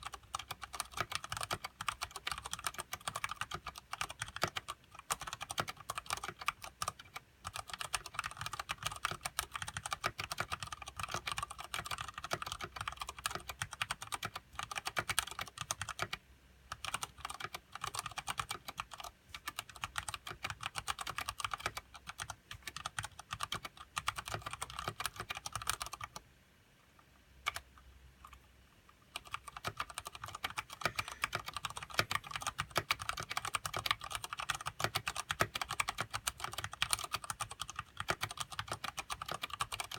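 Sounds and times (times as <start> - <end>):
mechanical keyboard typing: 0.0 - 26.2, 27.4 - 28.4, 29.1 - 39.9.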